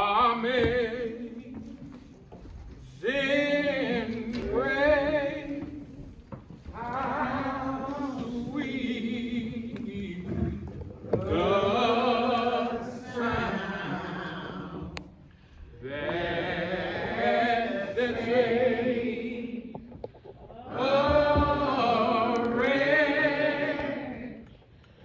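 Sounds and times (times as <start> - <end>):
hymn singing: 0.0 - 25.0.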